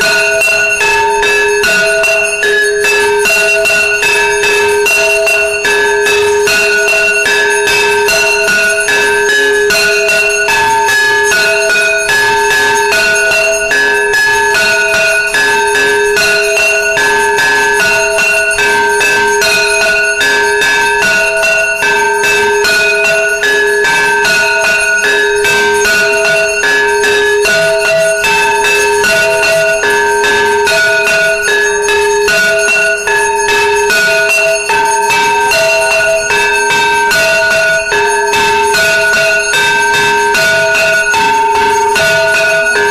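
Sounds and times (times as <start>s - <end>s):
steady held bell ring: 0.0s - 42.9s
temple bells ringing rapidly: 0.0s - 42.9s.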